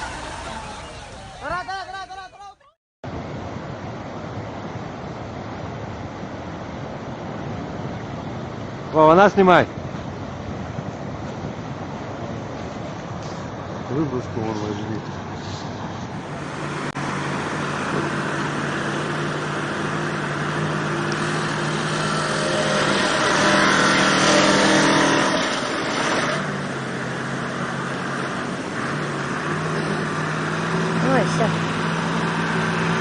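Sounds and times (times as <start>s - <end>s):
vehicle engine under load: 0.0s - 1.6s, 3.1s - 33.0s.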